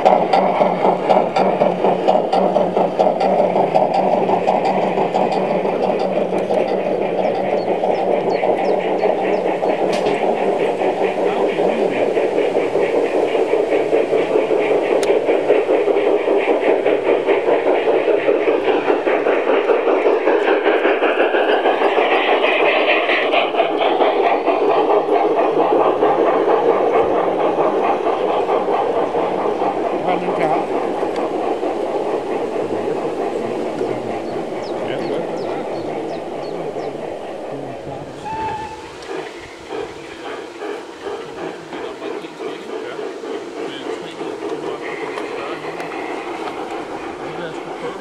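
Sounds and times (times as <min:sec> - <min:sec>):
model train wheels rumbling on rails: 0:00.0 - 0:48.0
rapid fine clicking: 0:00.0 - 0:48.0.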